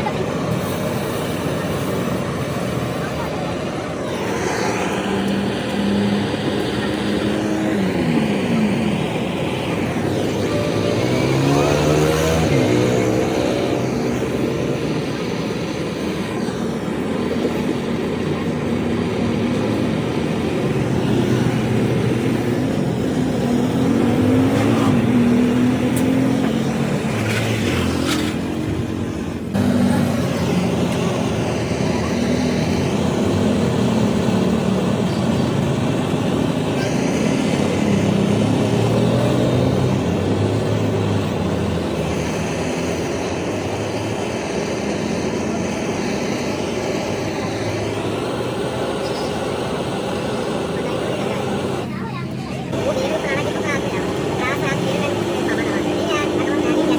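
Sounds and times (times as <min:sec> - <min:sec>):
vehicle engine revving: 0:00.0 - 0:56.9.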